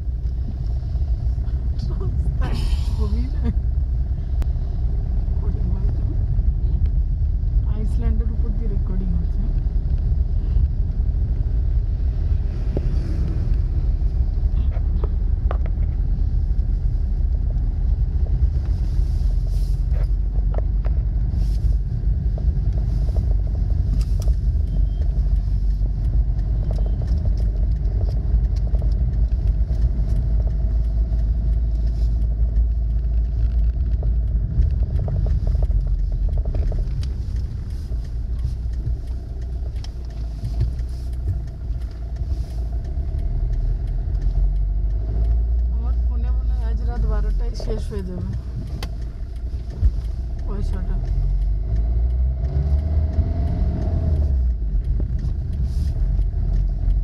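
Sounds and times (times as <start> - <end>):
car engine and road noise: 0.0 - 57.0
faint clicks: 0.0 - 57.0.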